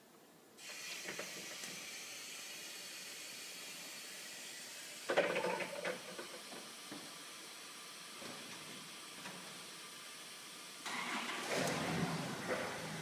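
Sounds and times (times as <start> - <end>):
hydraulics hissing: 0.6 - 13.0.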